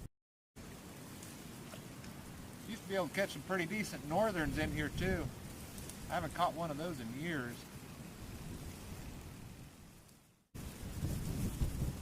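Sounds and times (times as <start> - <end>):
wind and blowing snow: 0.6 - 12.0.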